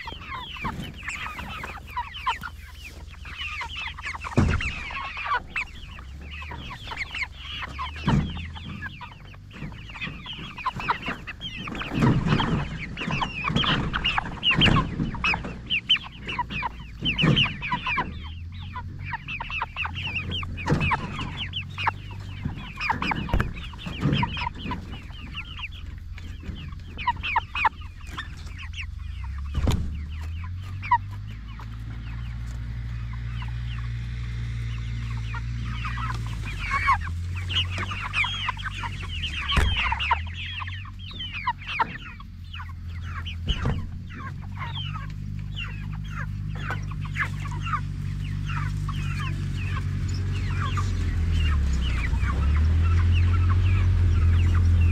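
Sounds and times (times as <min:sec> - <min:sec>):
chickens clucking and peeping: 0:00.0 - 0:54.9
steady low hum: 0:00.0 - 0:54.9.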